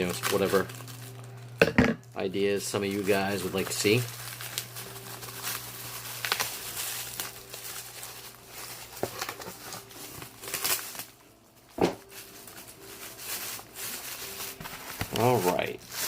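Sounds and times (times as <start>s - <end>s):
packaging rustling and crinkling: 0.0s - 1.5s, 2.5s - 16.0s.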